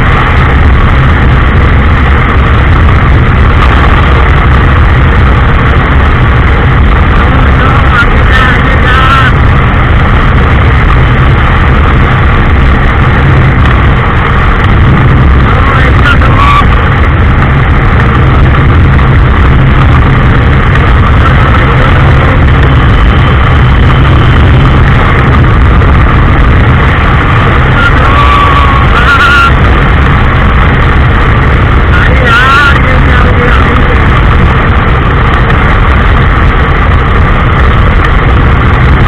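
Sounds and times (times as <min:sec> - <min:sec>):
motorcycle engine running: 0:00.0 - 0:39.0
wind buffeting microphone: 0:00.0 - 0:39.0.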